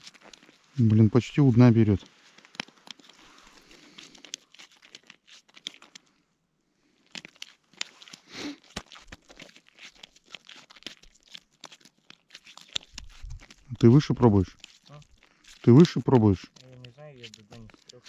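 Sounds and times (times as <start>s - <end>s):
crackling and crunching clicks: 0.0s - 6.2s, 7.0s - 18.0s.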